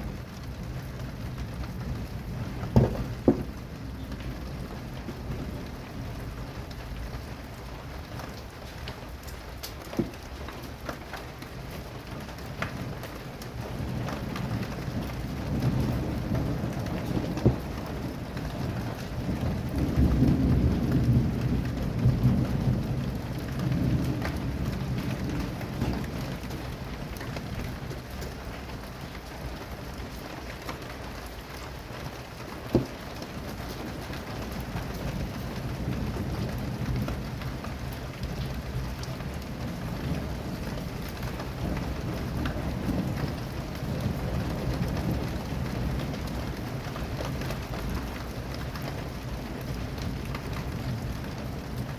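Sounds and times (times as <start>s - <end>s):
low rumble of thunder: 0.0s - 51.9s
steady rain falling: 0.0s - 51.9s.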